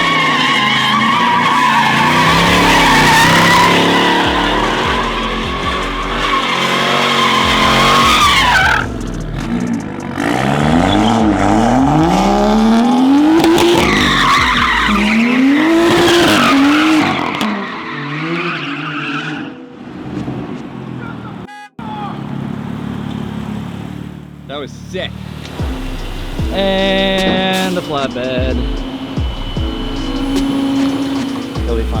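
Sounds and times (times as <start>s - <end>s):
tyres squealing: 0.0s - 9.8s, 10.6s - 19.5s, 24.5s - 32.0s
car engine revving: 0.0s - 32.0s.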